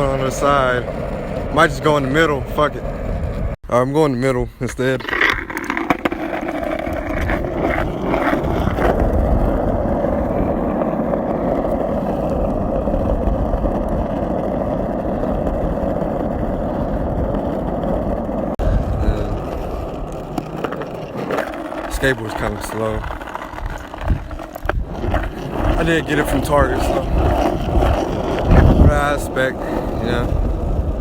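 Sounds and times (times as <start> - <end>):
skateboard wheels rolling on asphalt: 0.0 - 3.6, 4.6 - 31.0.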